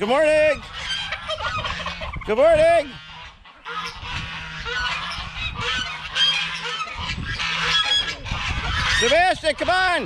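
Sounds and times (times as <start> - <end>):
geese honking: 0.0 - 10.0
poultry chatter: 0.0 - 10.0.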